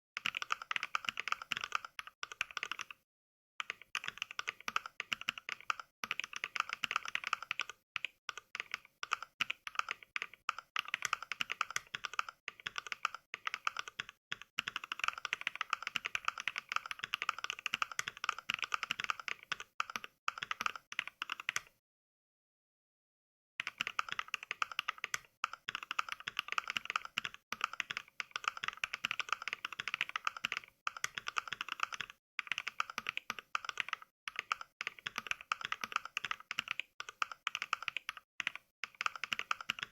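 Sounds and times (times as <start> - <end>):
mechanical keyboard typing clicks: 0.2 - 3.0, 3.6 - 21.7, 23.6 - 39.9.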